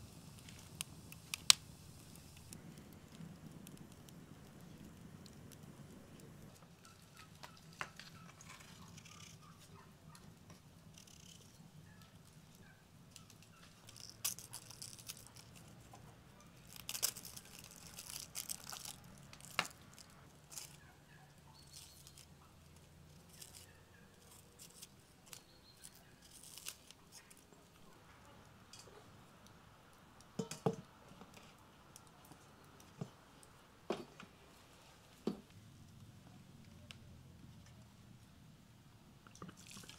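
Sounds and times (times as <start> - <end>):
onion skins crackling and rustling: 0.0 - 38.4, 39.2 - 39.9.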